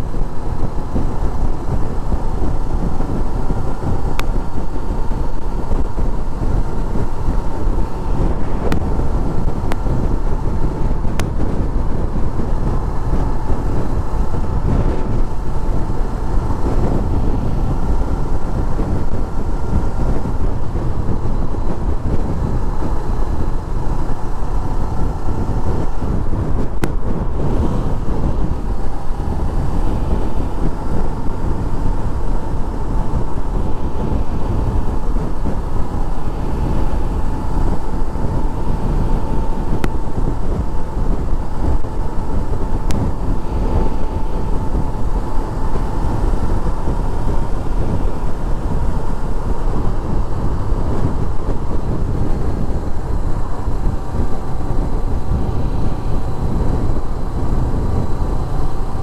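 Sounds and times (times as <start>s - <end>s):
faint steady whine: 0.0s - 59.0s
motorcycle engine running: 0.0s - 59.0s
wind and road noise: 0.0s - 59.0s.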